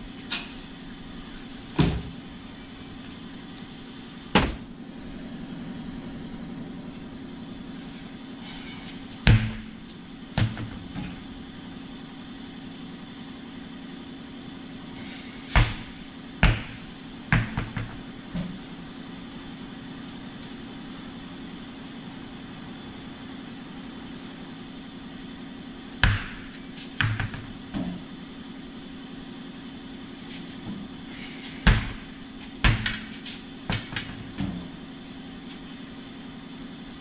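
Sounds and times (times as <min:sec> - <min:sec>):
steady hum: 0:00.0 - 0:37.0.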